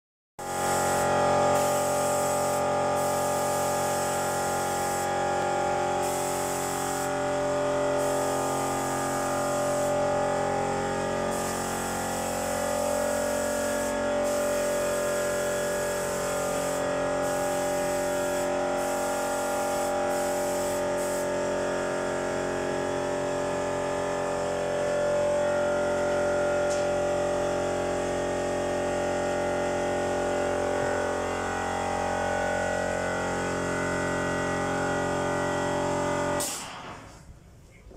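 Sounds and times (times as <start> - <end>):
steady machinery hum: 0.4 - 36.2.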